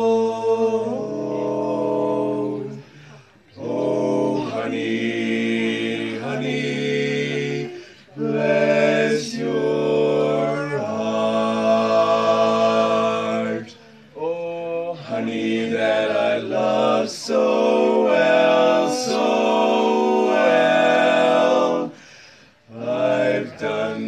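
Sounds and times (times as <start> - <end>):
male vocal quartet singing: 0.0 - 24.0.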